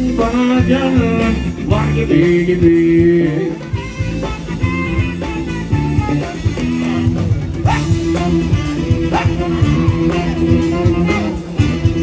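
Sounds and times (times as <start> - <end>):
drum kit beat: 0.0 - 12.0
electric bass: 0.0 - 12.0
live band playing: 0.0 - 12.0.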